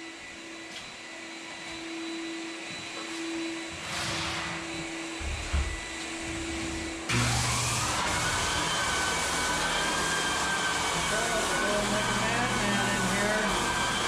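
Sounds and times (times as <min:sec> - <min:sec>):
floor sanding machine running: 0:00.0 - 0:14.0.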